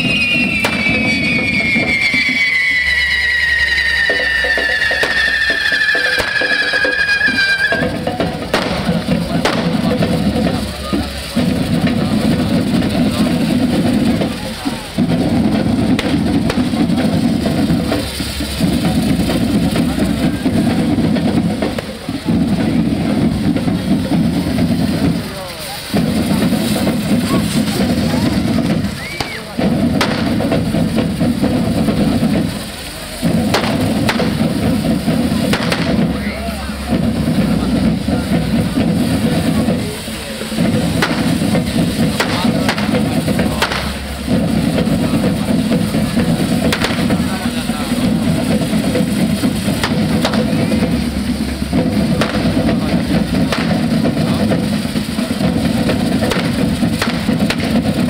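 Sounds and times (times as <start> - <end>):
firecrackers cracking: 0.0 - 58.0
loud drumming: 0.0 - 58.0
steady loud din: 0.0 - 58.0.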